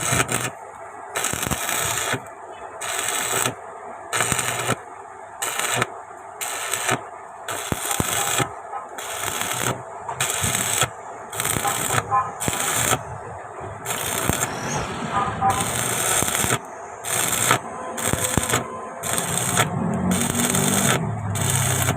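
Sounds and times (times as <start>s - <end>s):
arc welding crackling: 0.0s - 21.9s.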